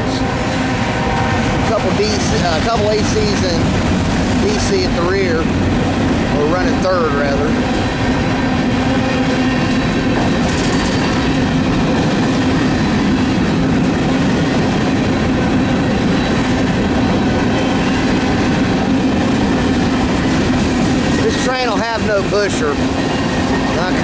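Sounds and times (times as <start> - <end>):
train wheels rolling on rail: 0.0 - 24.0.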